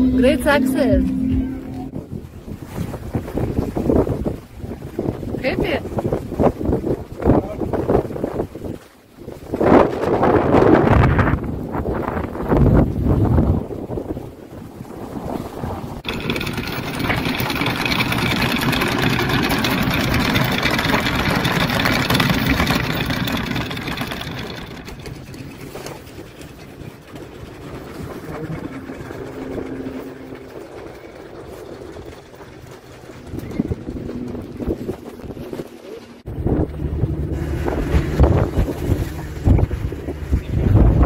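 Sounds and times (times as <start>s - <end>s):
water and wind rushing along hull: 0.0s - 41.0s.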